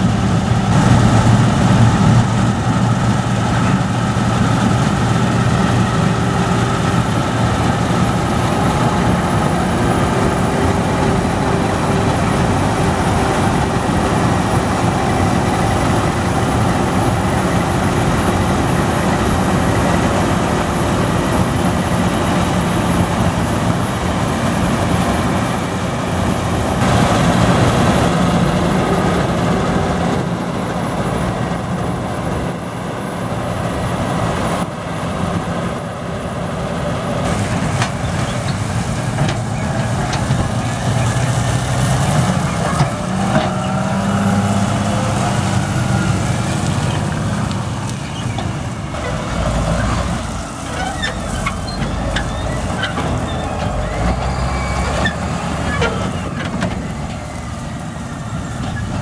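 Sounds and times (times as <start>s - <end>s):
combine harvester drone with whine: 0.0s - 59.0s.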